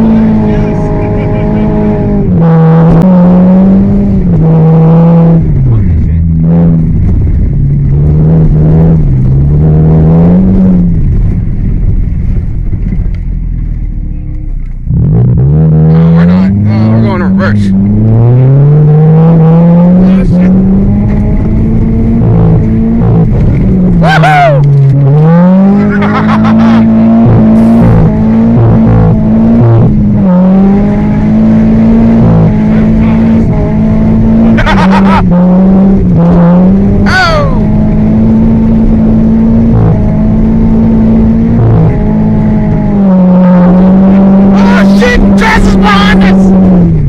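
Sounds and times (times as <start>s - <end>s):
car engine revving high: 0.0s - 11.4s, 14.9s - 47.0s.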